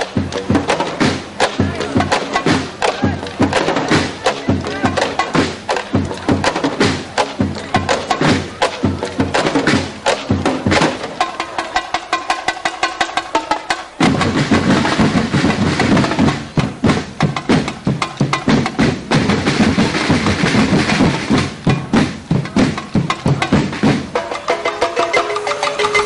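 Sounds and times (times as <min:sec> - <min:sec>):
clacking wood-block strikes: 0:00.0 - 0:26.0
drums beating: 0:00.0 - 0:26.0.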